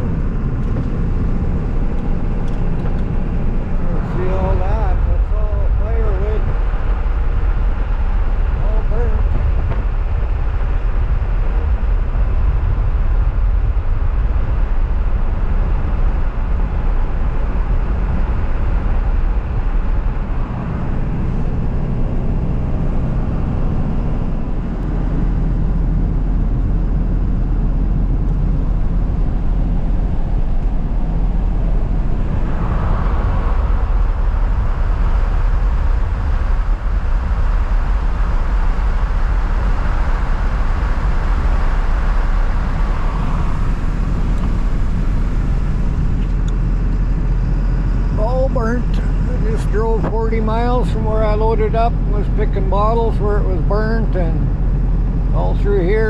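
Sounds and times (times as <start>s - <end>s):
truck engine and tyre rumble: 0.0s - 56.0s.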